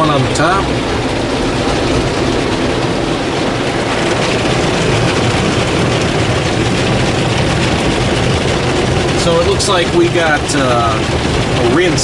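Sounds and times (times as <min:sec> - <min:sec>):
car wash machinery running: 0:00.0 - 0:12.0
water spraying on car: 0:00.0 - 0:12.0.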